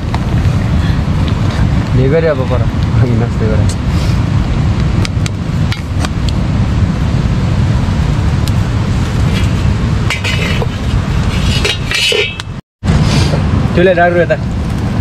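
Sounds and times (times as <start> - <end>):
low rumble of wood fire: 0.0 - 11.8, 12.4 - 15.0.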